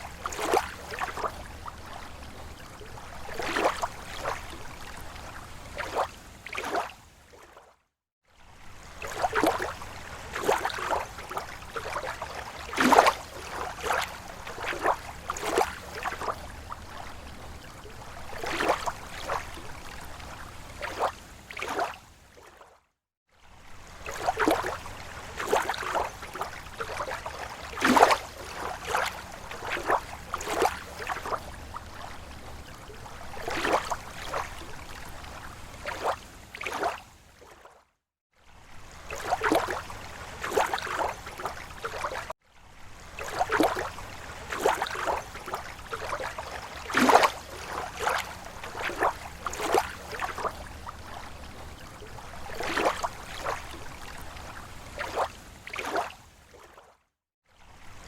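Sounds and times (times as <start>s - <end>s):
small waves lapping against shore: 0.0s - 58.0s.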